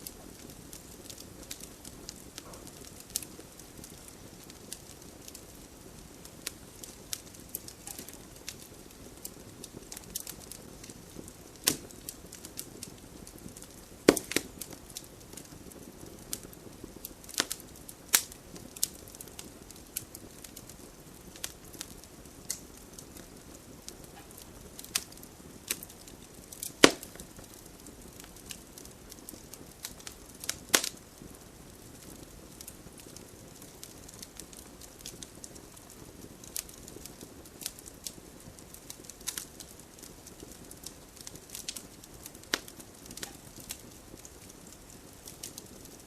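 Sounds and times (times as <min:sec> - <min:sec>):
campfire crackling and popping: 0:00.0 - 0:46.0
soft low hiss: 0:00.0 - 0:46.0.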